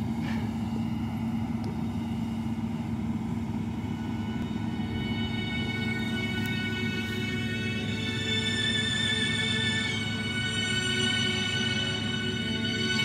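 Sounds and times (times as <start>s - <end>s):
harvester engine drone: 0.0s - 13.0s.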